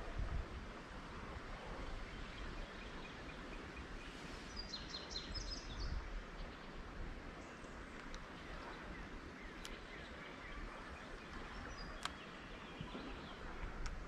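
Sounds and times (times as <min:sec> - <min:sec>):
outdoor background noise: 0:00.0 - 0:14.0
songbird singing: 0:01.4 - 0:14.0.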